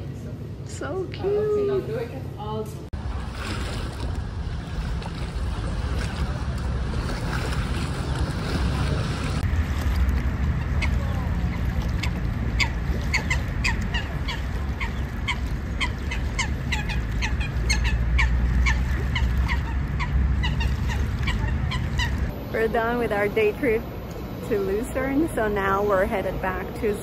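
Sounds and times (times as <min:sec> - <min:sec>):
steady low rumble: 0:02.8 - 0:27.0.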